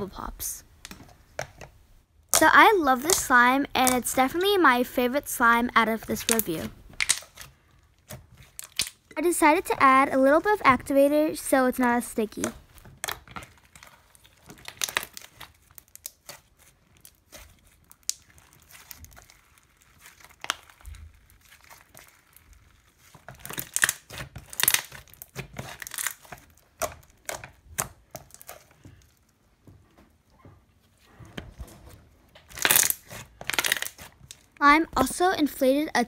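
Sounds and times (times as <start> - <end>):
slime crackling and popping: 0.2 - 29.4, 31.6 - 36.0.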